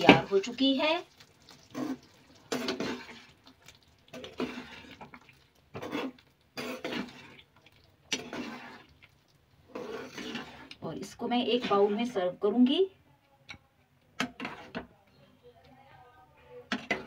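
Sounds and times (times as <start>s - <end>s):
spoon stirring thick curry in pan: 0.0s - 16.0s, 16.6s - 17.0s.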